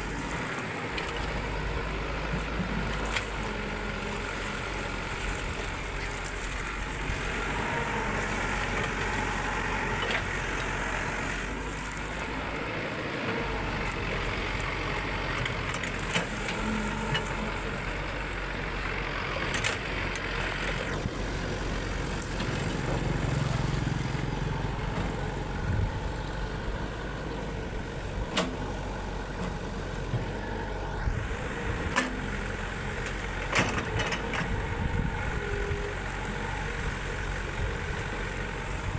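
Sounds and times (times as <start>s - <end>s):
diesel excavator running: 0.0s - 38.9s.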